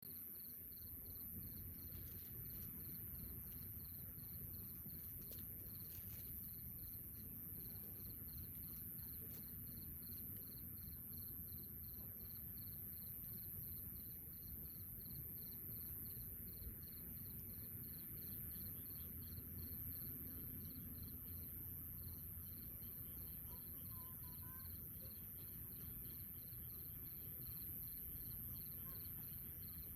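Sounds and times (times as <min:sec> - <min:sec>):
cricket chirping: 0:00.0 - 0:29.9
faint low background noise: 0:00.0 - 0:29.9
high-pitched insect trill: 0:00.1 - 0:29.9.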